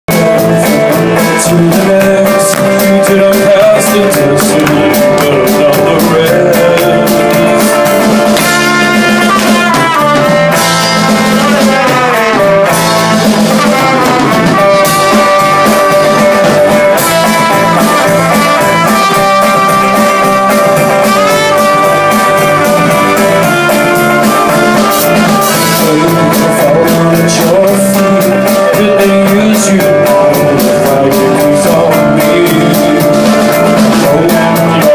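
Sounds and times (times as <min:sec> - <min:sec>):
rock band playing live: 0:00.0 - 0:34.9.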